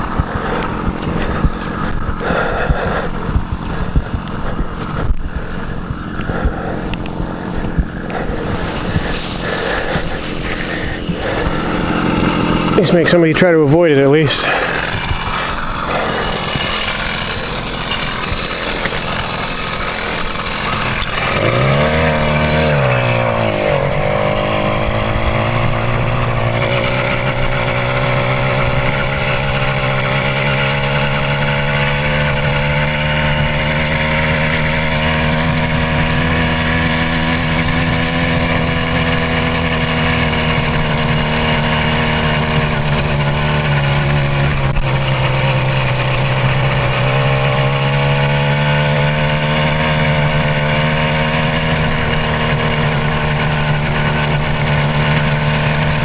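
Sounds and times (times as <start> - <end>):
two-stroke engine running: 0.0 - 56.0.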